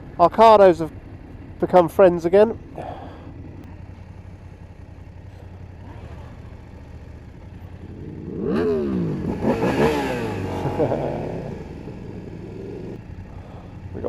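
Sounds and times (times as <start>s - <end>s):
low engine hum: 0.0s - 14.0s
motorcycle engine revving: 0.0s - 14.0s.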